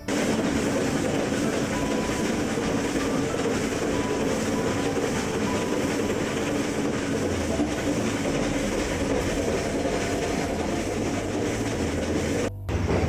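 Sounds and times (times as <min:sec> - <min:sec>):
train wheels on track: 0:00.0 - 0:13.0.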